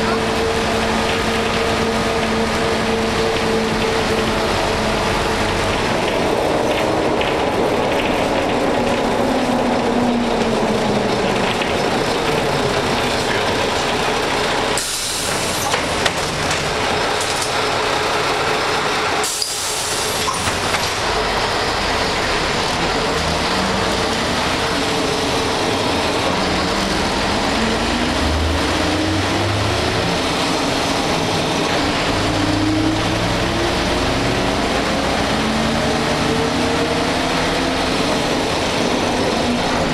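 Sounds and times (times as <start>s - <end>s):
bus diesel engine: 0.0s - 39.9s.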